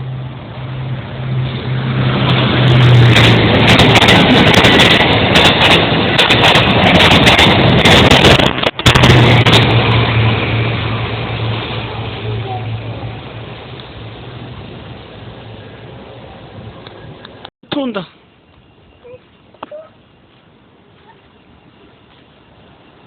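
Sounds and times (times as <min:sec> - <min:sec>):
train passing at speed: 0:00.0 - 0:17.5, 0:18.2 - 0:23.0.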